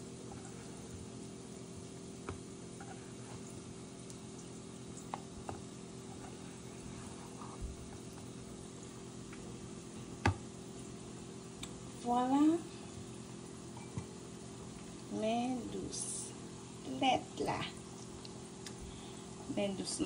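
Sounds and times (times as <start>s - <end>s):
low kitchen hum: 0.0s - 20.0s.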